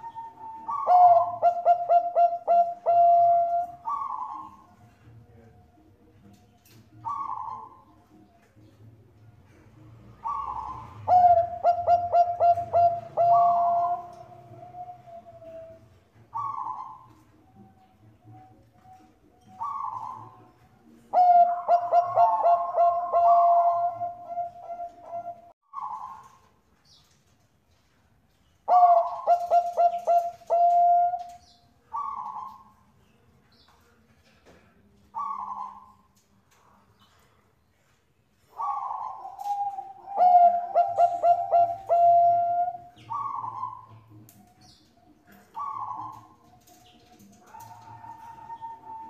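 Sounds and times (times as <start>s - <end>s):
dove cooing: 0.0s - 5.7s, 6.7s - 8.3s, 9.5s - 26.5s, 28.7s - 32.9s, 35.1s - 36.1s, 38.4s - 49.0s.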